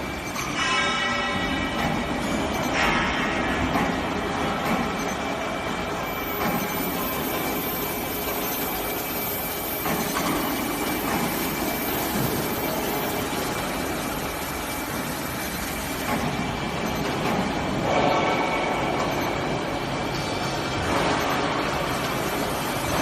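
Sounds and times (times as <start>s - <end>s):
machinery noise: 0.0s - 23.0s
high-pitched whine: 1.4s - 23.0s.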